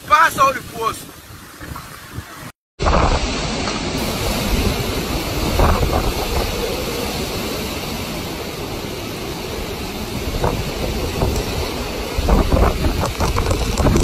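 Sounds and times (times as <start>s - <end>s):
driving rain: 0.0s - 14.0s
hurricane wind buffeting microphone: 0.0s - 14.0s.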